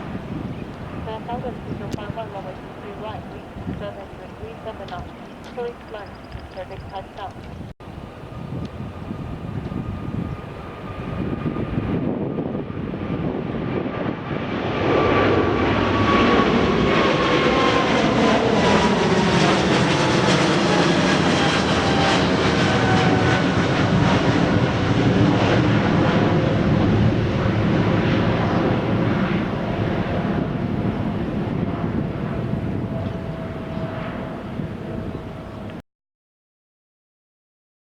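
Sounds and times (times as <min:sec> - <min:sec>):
jet airliner engines passing: 0:00.0 - 0:35.8.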